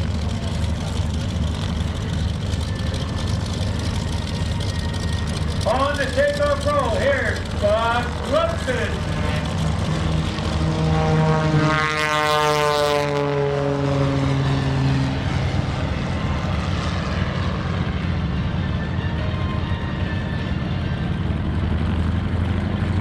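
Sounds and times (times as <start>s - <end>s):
propeller aircraft engine passing: 0.0s - 23.0s.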